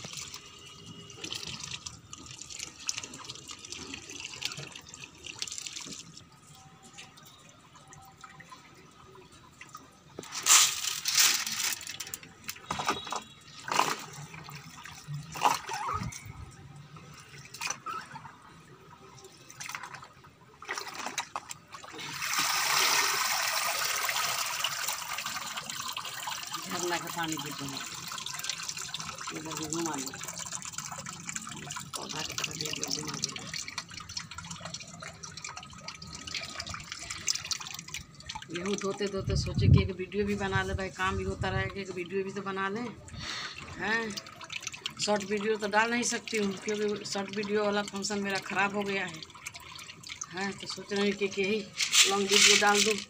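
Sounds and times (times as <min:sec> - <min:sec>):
water pouring from a sieve: 0:00.0 - 0:07.3, 0:09.6 - 0:53.0.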